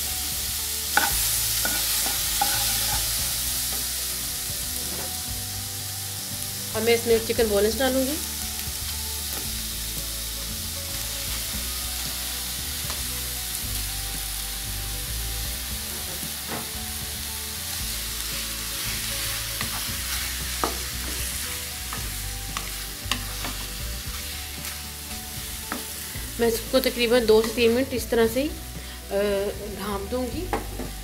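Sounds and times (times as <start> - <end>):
chicken sizzling in a pan: 0.0 - 31.0.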